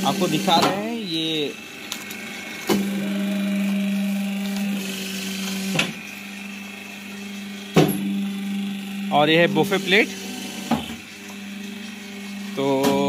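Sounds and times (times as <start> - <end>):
machine motor hum: 0.0 - 13.0.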